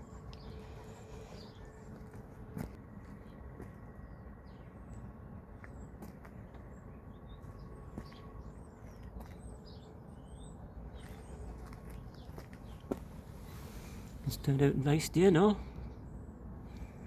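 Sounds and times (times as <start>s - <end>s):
birds chirping: 0.0s - 17.0s
low outdoor rumble: 0.0s - 17.0s.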